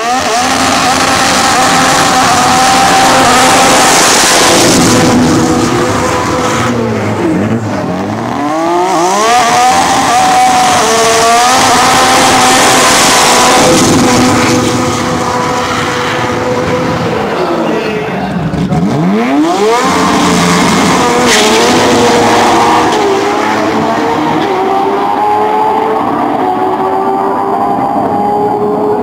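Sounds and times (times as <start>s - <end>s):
car engine revving high: 0.0s - 29.0s.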